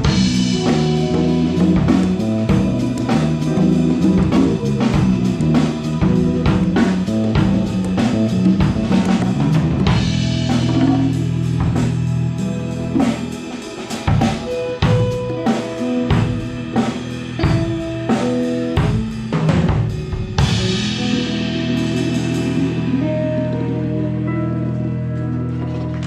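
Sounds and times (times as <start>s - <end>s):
bass guitar notes: 0.0s - 26.0s
drum kit: 0.0s - 26.0s
electric guitar: 0.0s - 26.0s
keyboard notes: 0.0s - 26.0s.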